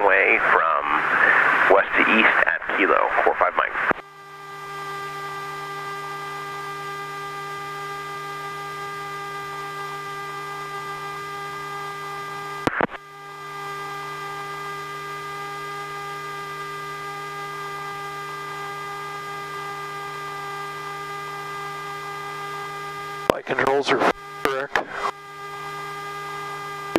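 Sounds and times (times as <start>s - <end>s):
electrical hum and whine: 0.0s - 26.9s.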